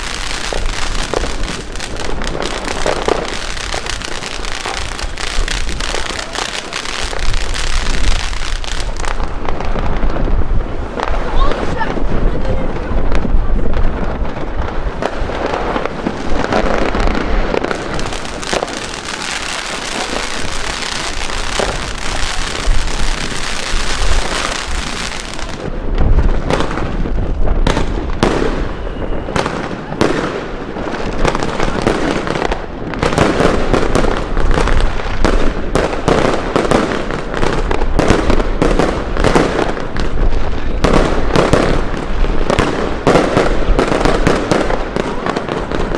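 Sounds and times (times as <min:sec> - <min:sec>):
aerial fireworks banging: 0:00.0 - 0:45.9
fountain firework hissing and crackling: 0:00.0 - 0:45.9.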